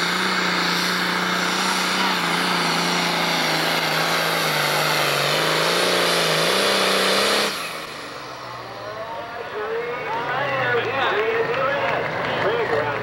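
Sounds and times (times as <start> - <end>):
diesel tractor engine droning: 0.0 - 13.0
low engine hum: 0.0 - 13.0.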